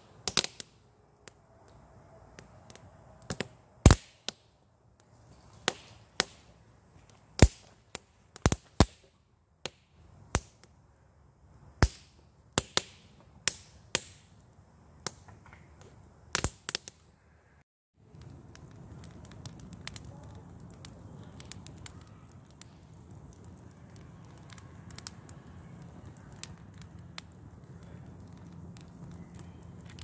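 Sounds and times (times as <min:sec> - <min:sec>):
kindling fire crackling and popping: 0:00.0 - 0:17.2, 0:18.0 - 0:30.0.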